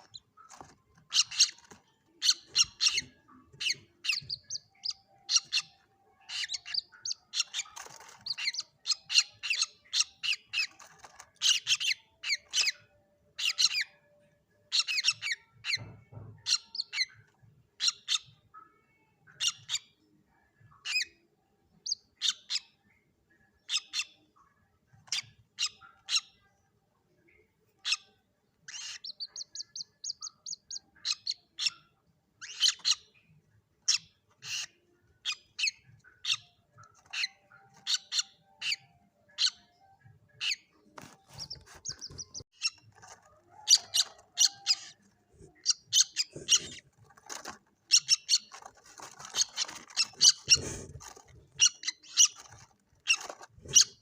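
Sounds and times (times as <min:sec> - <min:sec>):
chicks squeaky calls: 0:00.0 - 0:14.1, 0:14.7 - 0:18.5, 0:19.3 - 0:20.0, 0:20.6 - 0:22.8, 0:23.6 - 0:26.5, 0:27.7 - 0:54.0.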